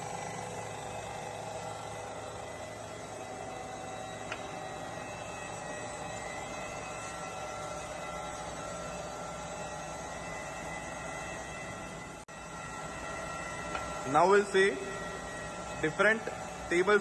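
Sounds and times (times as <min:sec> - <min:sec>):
grinder wheel spinning: 0:00.0 - 0:17.0.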